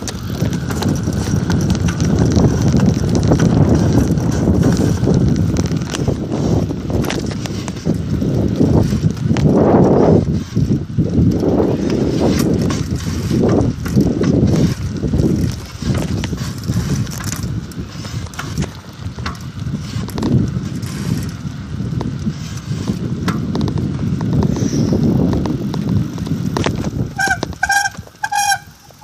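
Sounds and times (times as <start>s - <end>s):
bicycle clicks and rattles: 0.0s - 29.0s
wind and tyre rumble: 0.0s - 29.0s.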